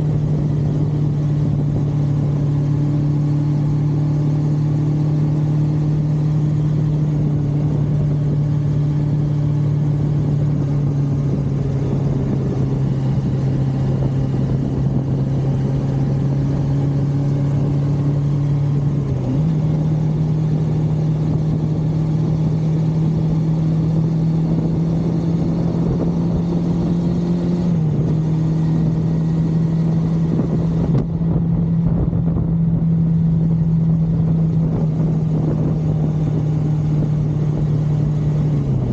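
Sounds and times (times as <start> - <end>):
wind rush: 0.0 - 3.9, 6.2 - 38.9
motorcycle engine running: 0.0 - 38.9.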